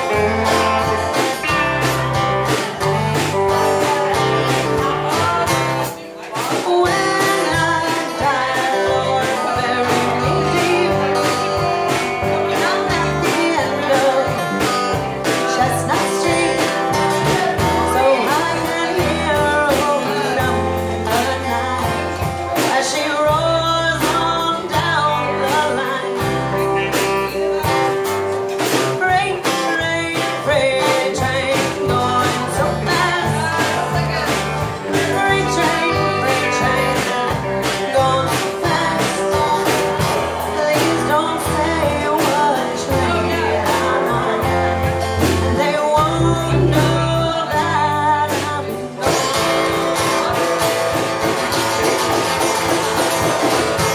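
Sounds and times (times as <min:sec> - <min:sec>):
bass guitar: 0:00.0 - 0:53.9
electric and acoustic guitars: 0:00.0 - 0:53.9
person singing: 0:00.0 - 0:53.9
steady drum beat: 0:00.0 - 0:53.9.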